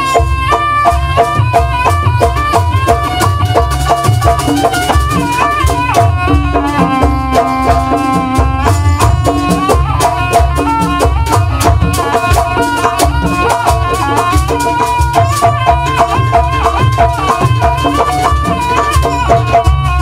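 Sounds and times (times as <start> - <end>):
drums: 0.0 - 20.0
jingling rattle percussion: 0.0 - 20.0
reed pipe melody: 0.0 - 20.0.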